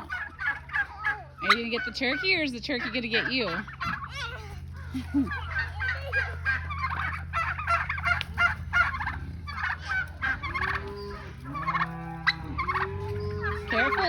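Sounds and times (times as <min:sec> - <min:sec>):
steady low hum: 0:00.0 - 0:14.0
turkeys gobbling: 0:00.0 - 0:14.0.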